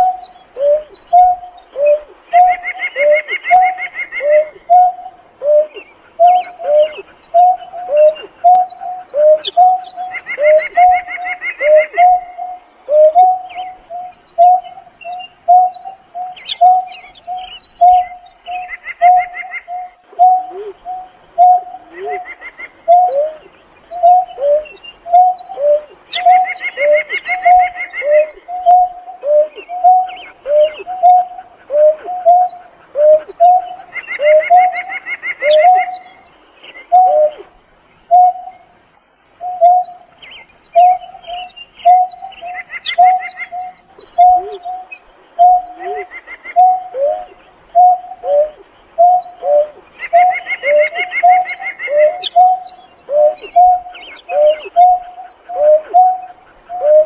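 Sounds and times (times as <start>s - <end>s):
bird low hooting calls: 0.0s - 57.0s.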